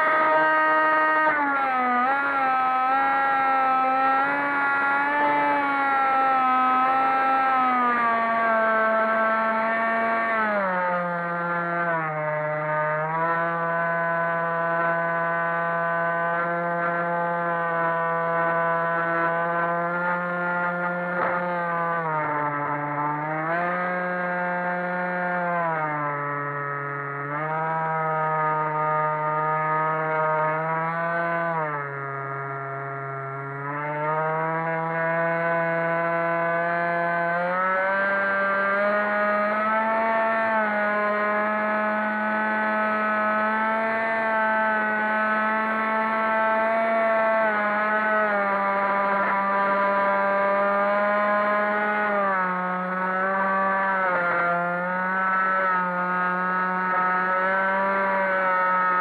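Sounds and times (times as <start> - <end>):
electric motor and propeller running: 0.0 - 59.0.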